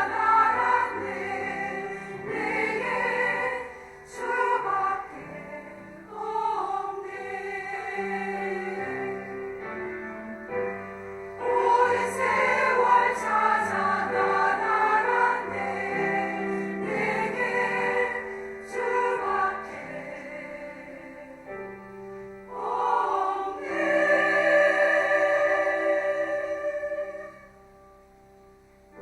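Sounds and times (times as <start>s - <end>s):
women's choir singing: 0.0s - 21.8s, 22.4s - 27.6s
piano accompaniment: 0.0s - 29.0s.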